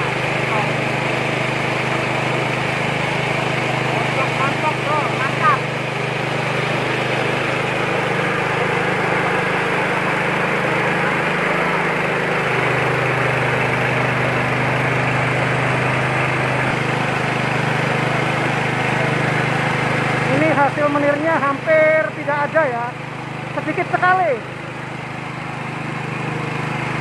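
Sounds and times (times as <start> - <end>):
milling machine drone: 0.0 - 27.0.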